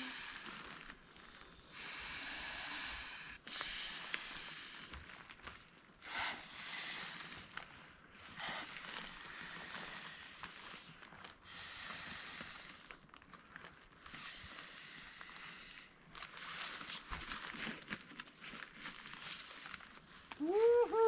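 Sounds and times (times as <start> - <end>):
faint rustling and crinkling: 0.0 - 21.0.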